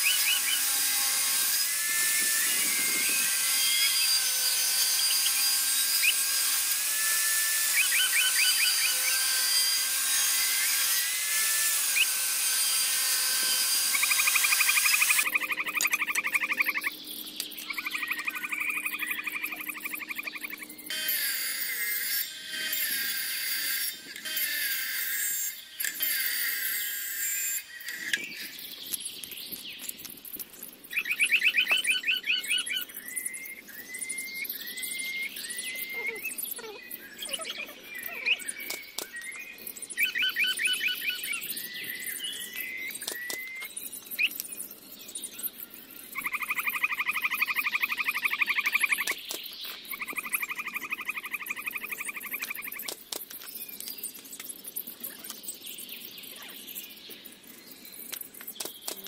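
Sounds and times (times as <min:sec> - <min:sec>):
birds trilling and chirping: 0:00.0 - 0:59.0.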